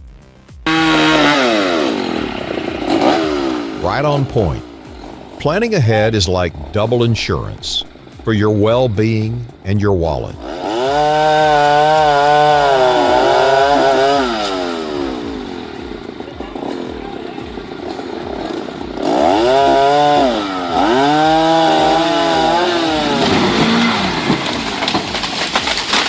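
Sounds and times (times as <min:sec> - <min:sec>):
small petrol engine revving: 0:00.6 - 0:07.0, 0:10.4 - 0:26.0.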